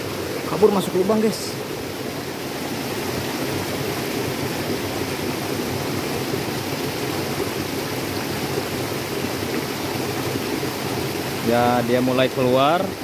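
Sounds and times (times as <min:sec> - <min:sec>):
small stream running: 0:00.0 - 0:13.0.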